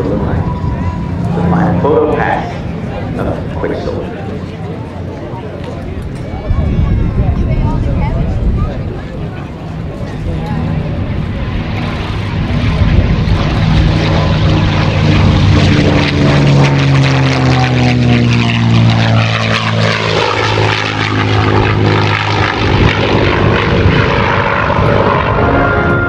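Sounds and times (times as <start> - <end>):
propeller plane engine flypast: 0.0 - 26.0.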